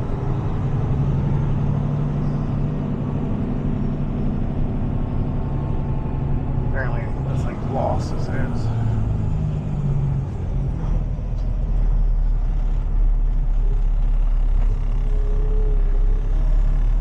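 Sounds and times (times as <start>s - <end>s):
road noise: 0.0s - 17.0s
truck diesel engine rumble: 0.0s - 17.0s.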